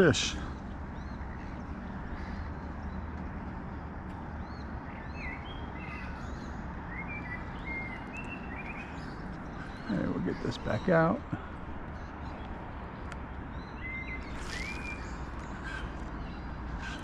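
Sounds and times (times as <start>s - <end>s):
bird calls: 0.0s - 17.0s.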